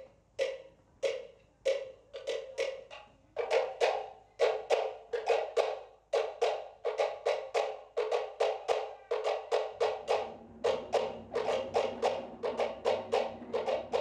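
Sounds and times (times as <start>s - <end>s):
wooden slit drums knocking: 0.0s - 14.0s
deeper drum: 2.2s - 14.0s.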